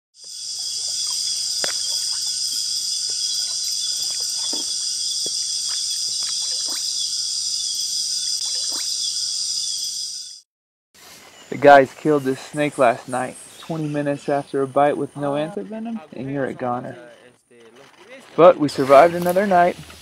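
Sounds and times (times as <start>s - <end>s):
insects buzzing: 0.2s - 10.4s, 11.0s - 20.0s.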